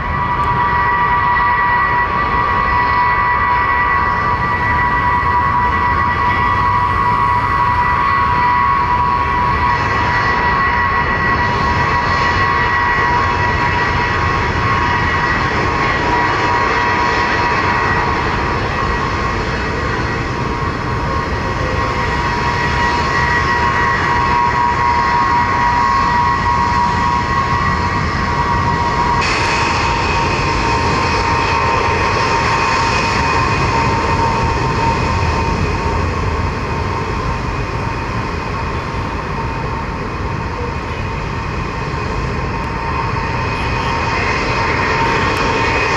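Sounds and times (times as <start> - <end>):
jet engines whining and roaring: 0.0 - 45.9.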